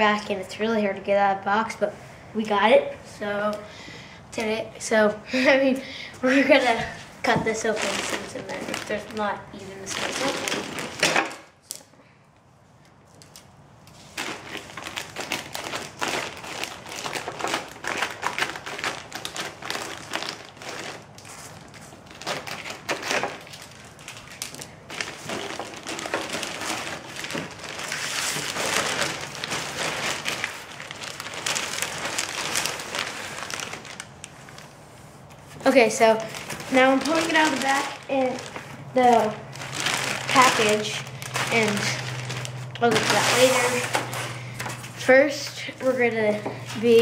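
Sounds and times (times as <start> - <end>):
plastic wrap crinkling: 6.2 - 11.4, 13.0 - 47.0.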